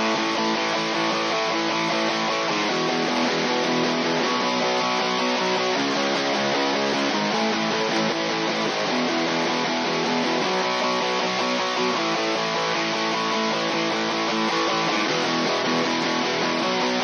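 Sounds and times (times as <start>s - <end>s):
rhythm guitars strumming chords: 0.0s - 17.0s.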